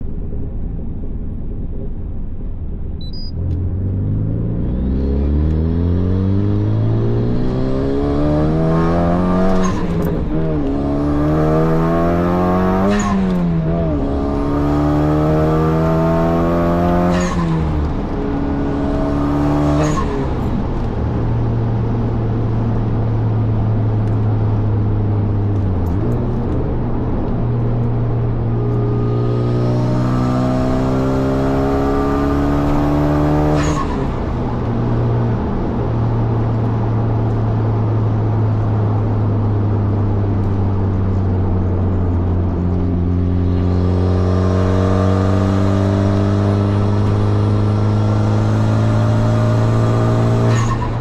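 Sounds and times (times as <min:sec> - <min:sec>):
car engine accelerating: 0:02.5 - 0:51.0.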